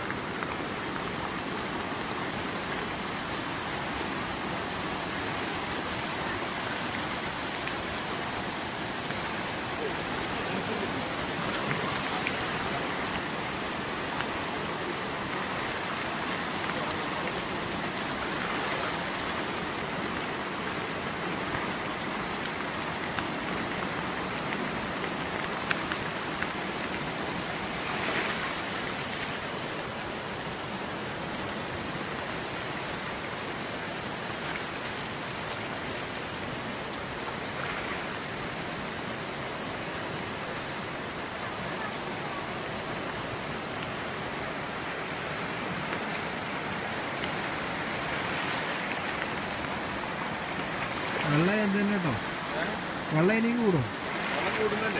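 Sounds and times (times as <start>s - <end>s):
falling rain: 0.0s - 54.9s
river rushing: 0.0s - 54.9s.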